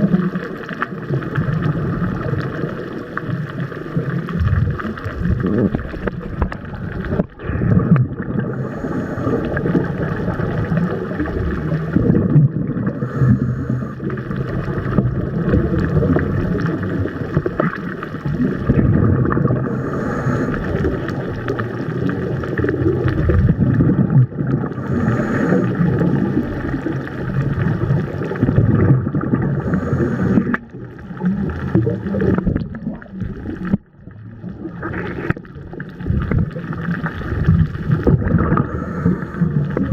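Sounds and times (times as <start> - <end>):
muffled rushing gurgling water: 0.0 - 39.9.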